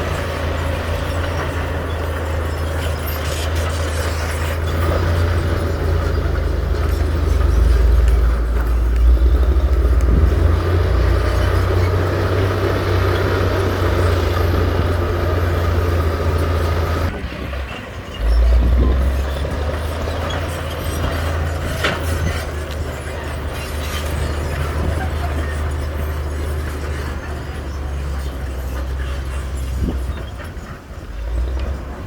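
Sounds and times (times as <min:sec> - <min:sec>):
heavy diesel engine droning: 0:00.0 - 0:32.0.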